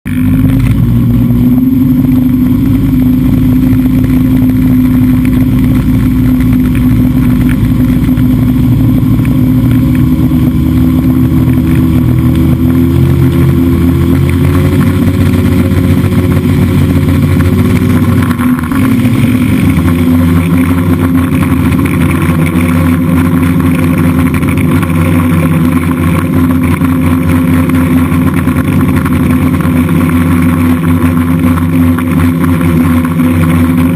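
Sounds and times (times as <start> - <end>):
drone propellers buzzing: 0.1 - 33.9.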